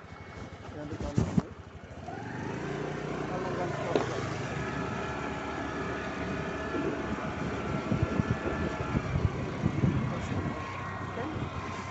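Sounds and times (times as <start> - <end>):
scooter engine running: 0.0 - 11.9.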